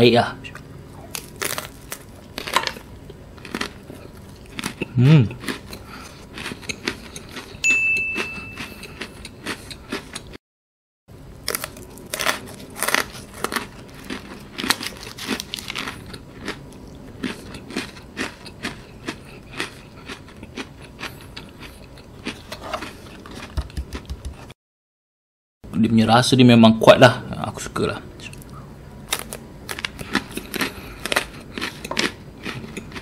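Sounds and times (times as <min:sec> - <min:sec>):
crunching and chewing biscuits: 0:01.0 - 0:07.6, 0:08.2 - 0:10.4, 0:11.4 - 0:24.5, 0:28.4 - 0:33.0.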